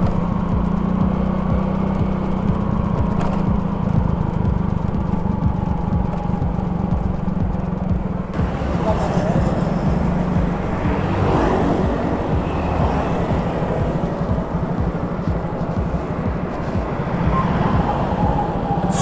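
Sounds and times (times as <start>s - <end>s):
vehicle engine rumble: 0.0s - 19.0s
wind buffeting microphone: 2.5s - 19.0s.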